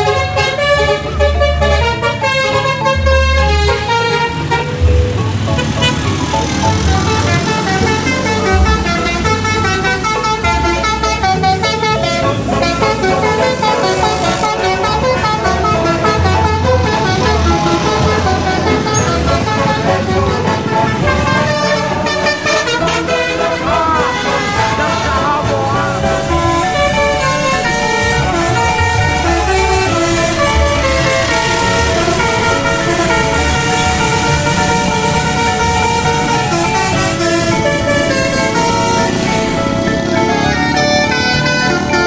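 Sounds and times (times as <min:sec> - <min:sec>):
low vehicle rumble: 0:00.0 - 0:42.0
multi-tone horn playing notes: 0:00.0 - 0:42.0.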